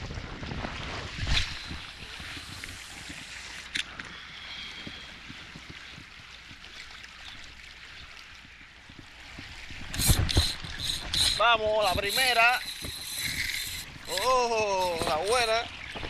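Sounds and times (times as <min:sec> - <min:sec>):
small waves lapping: 0:00.0 - 0:16.0.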